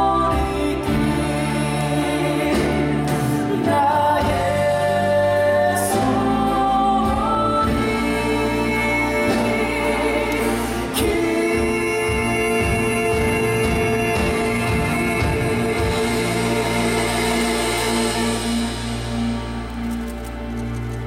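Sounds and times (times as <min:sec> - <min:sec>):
person singing long held notes: 0:00.0 - 0:19.8
orchestral accompaniment: 0:00.0 - 0:21.0.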